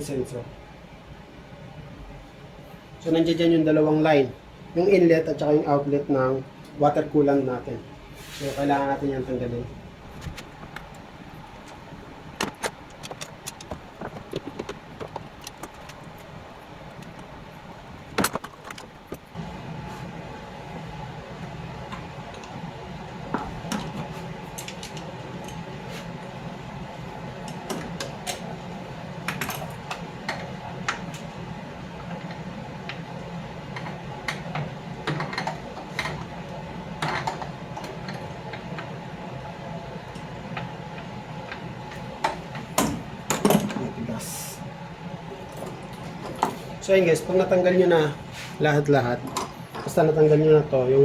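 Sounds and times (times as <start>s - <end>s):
low background hum: 0.0s - 51.0s.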